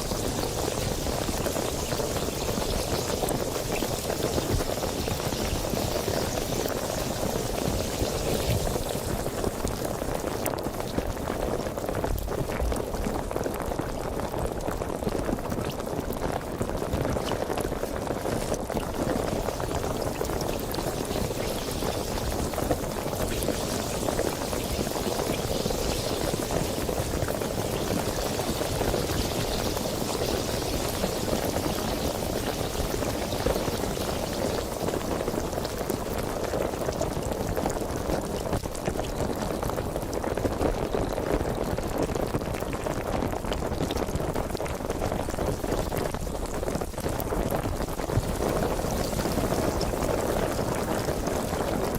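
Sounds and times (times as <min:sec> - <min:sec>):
sparkling water fizzing: 0:00.0 - 0:13.2, 0:17.2 - 0:41.8, 0:47.9 - 0:51.9.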